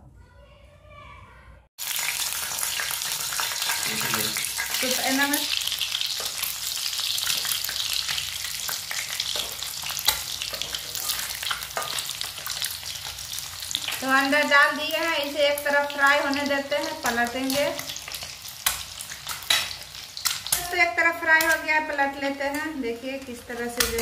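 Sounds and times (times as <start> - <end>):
eggs sizzling in hot oil: 1.8 - 24.0.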